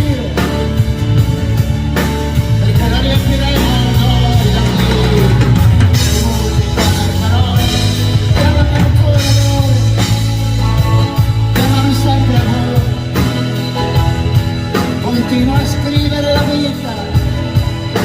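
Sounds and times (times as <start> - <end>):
drums steady beat: 0.0 - 18.0
live rock band playing: 0.0 - 18.0.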